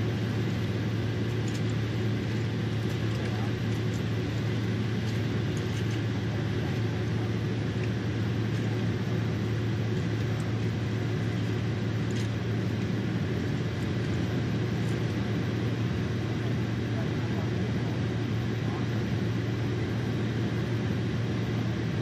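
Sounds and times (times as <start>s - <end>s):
airplane cabin engine hum: 0.0s - 22.0s.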